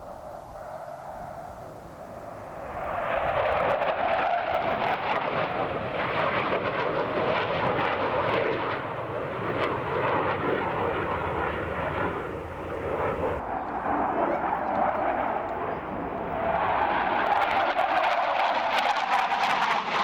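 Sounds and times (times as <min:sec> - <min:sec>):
jet passing overhead: 0:00.0 - 0:20.0.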